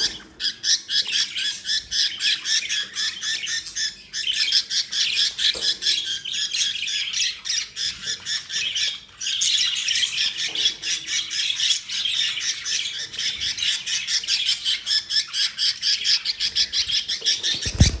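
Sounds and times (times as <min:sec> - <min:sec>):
budgerigars squawking and chattering: 0:00.0 - 0:18.0.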